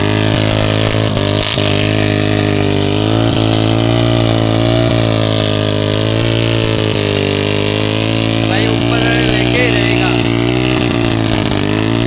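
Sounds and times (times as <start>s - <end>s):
motorcycle engine labouring: 0.0s - 12.0s.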